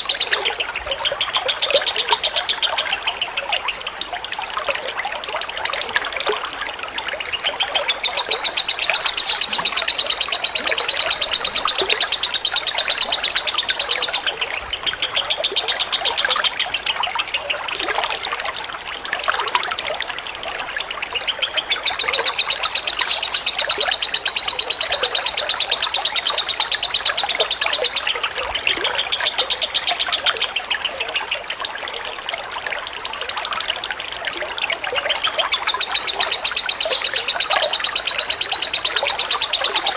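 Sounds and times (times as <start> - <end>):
bird chattering trill: 0.0 - 39.9
trickling water: 0.0 - 39.9.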